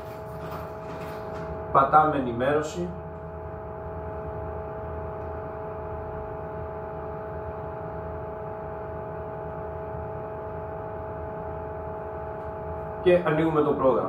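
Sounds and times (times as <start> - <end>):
machine hum with low rumble: 0.0 - 14.0.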